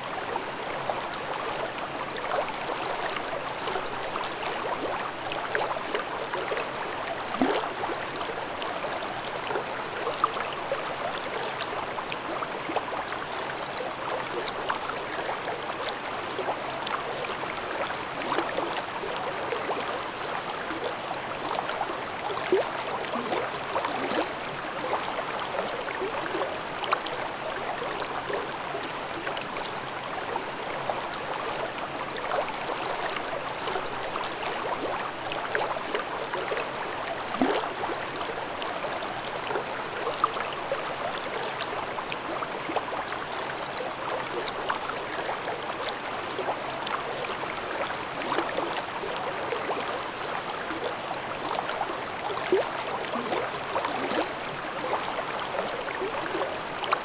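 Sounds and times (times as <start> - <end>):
stream babbling over rocks: 0.1 - 57.0.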